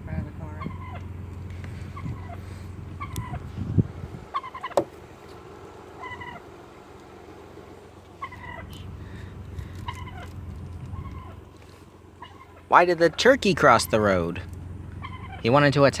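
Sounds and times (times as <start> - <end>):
low hum: 0.0 - 16.0
turkeys calling: 0.5 - 15.6.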